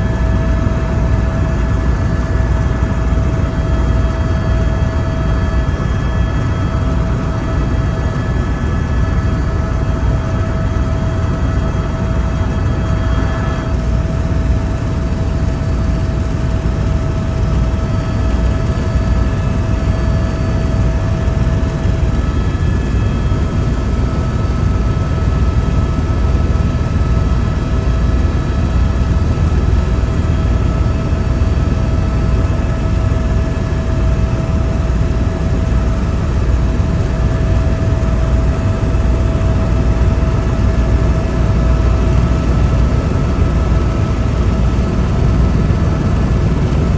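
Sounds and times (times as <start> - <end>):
helicopter cabin rumble: 0.0 - 46.9.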